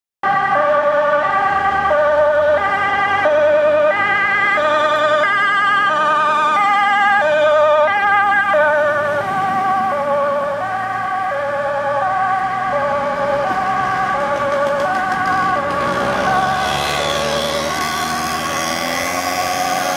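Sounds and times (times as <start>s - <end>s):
fire engine two-tone siren: 0.2s - 19.9s.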